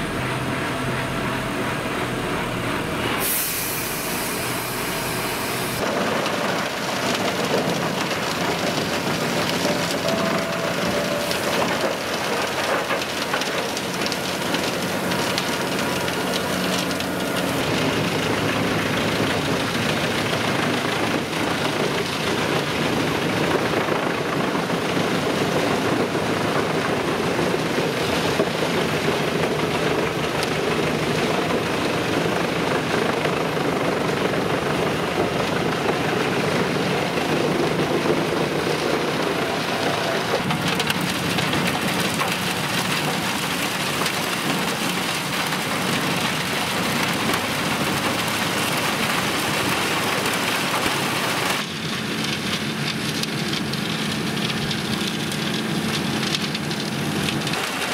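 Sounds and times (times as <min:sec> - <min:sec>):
wood chipper running: 0:00.0 - 0:57.9.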